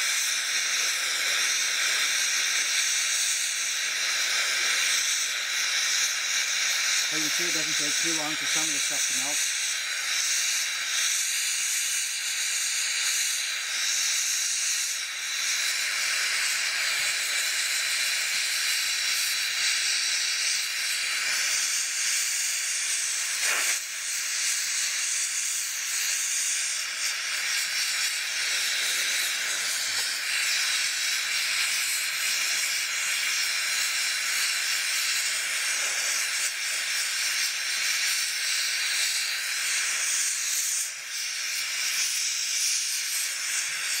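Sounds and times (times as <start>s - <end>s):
gas torch flame hissing: 0.0s - 44.0s.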